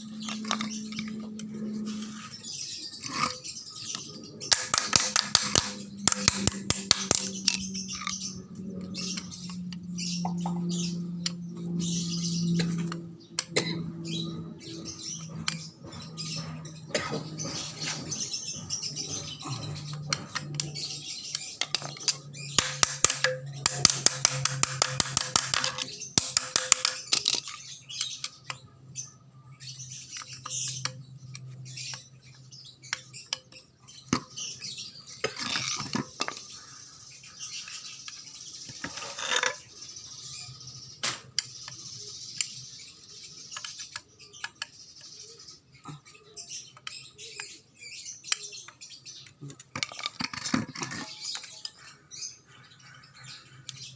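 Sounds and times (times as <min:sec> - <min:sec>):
birds chirping and squawking: 0:00.0 - 0:53.9.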